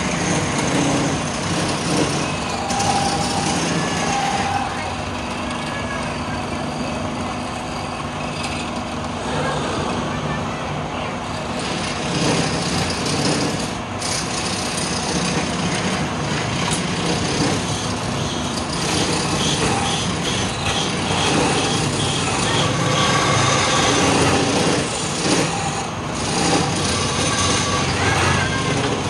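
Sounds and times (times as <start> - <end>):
chisel cutting spinning wood: 0.0 - 9.0, 11.4 - 29.0
lathe motor humming: 0.0 - 29.0.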